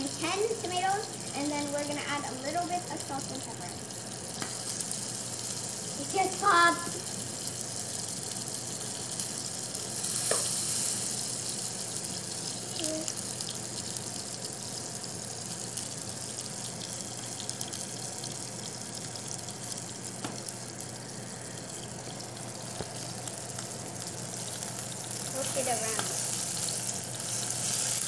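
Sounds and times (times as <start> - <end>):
tomatoes sizzling in a pan: 0.0 - 28.0.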